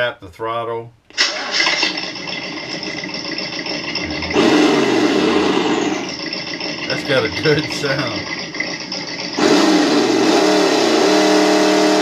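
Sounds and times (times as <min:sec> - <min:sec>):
simulated engine idling and revving: 0:01.8 - 0:12.0.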